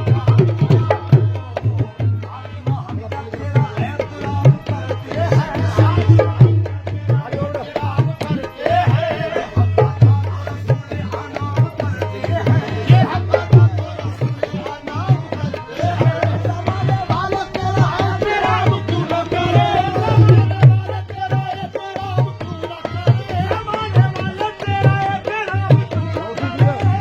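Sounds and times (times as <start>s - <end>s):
hand drum beat: 3.4s - 27.0s.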